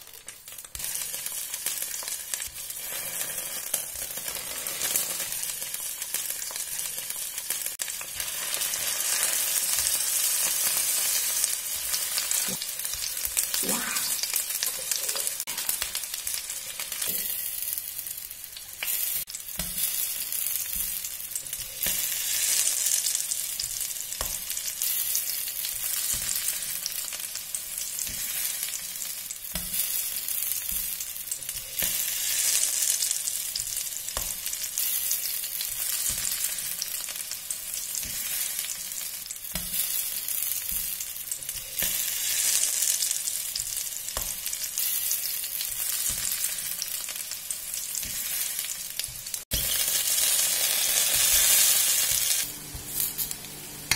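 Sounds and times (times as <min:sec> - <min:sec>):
potatoes sizzling in oil: 0:00.0 - 0:53.9.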